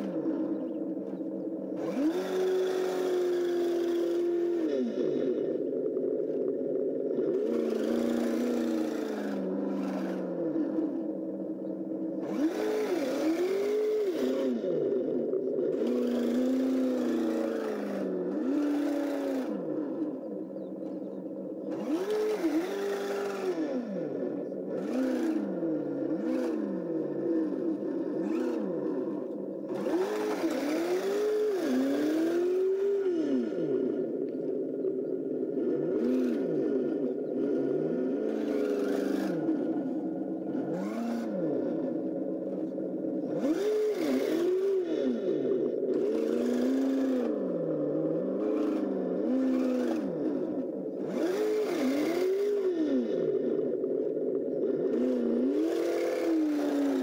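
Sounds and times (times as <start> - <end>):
high-pitched drive whirring: 0.0 - 57.0
simulated engine sound: 0.0 - 57.0.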